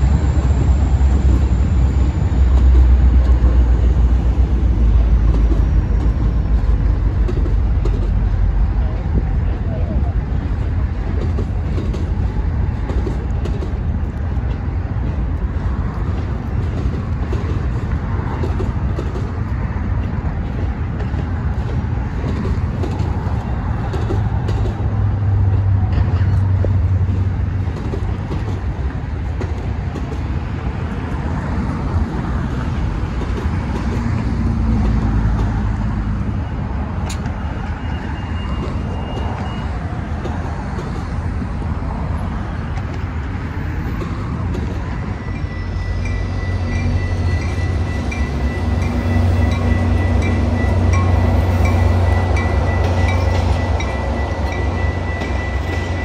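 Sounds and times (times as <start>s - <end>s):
passenger train rumbling: 0.0s - 56.0s.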